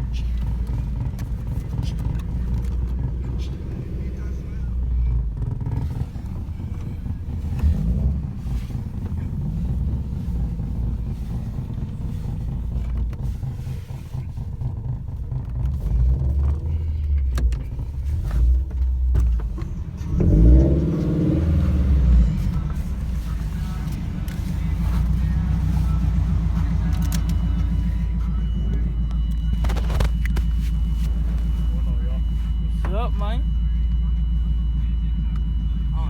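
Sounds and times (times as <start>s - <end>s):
car engine rumbling: 0.0s - 36.0s.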